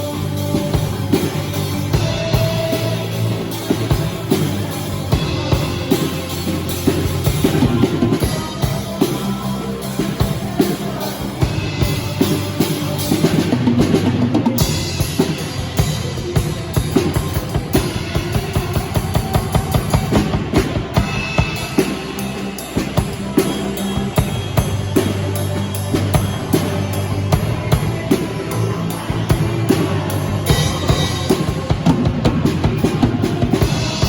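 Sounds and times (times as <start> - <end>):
drum kit: 0.0 - 34.0
live band playing: 0.0 - 34.0.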